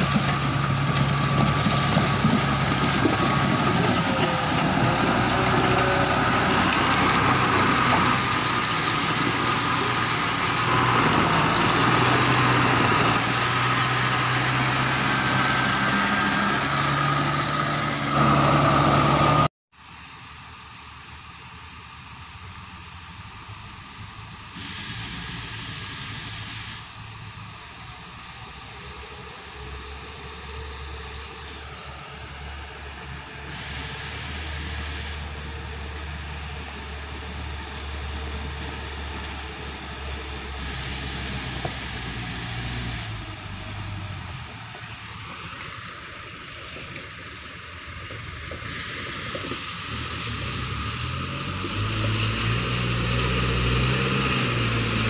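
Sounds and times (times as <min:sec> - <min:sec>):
diesel engines humming: 0:00.0 - 0:55.0
high hiss: 0:00.0 - 0:55.0.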